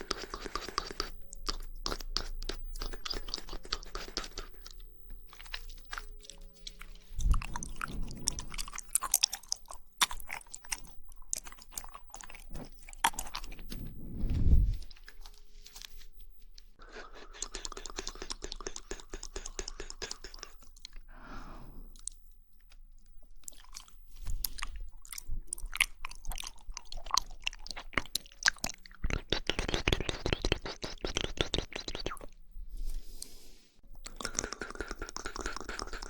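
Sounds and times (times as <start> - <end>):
wet chewing of jelly: 0.0 - 14.0, 16.8 - 21.1, 21.9 - 32.4, 34.0 - 36.0.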